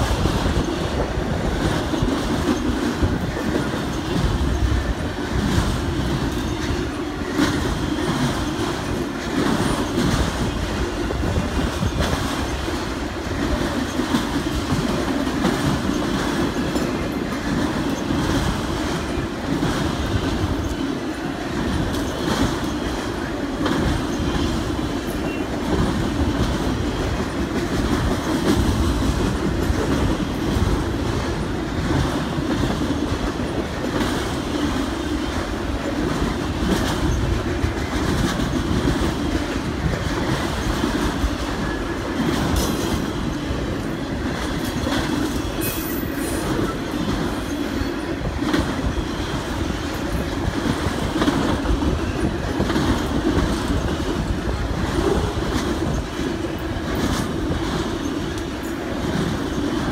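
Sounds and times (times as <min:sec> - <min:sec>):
train cars clicking and clanking: 0:00.0 - 0:59.9
train wheels rumbling on rails: 0:00.0 - 0:59.9.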